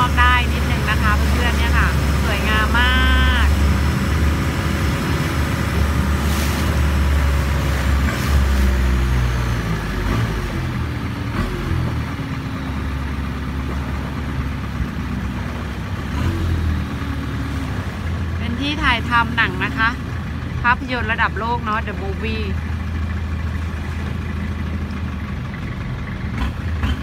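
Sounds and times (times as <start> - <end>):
boat engine humming: 0.0 - 27.0.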